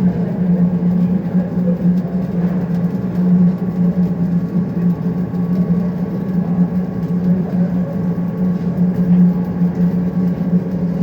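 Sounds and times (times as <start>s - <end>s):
machinery hum and rumble: 0.0s - 11.0s.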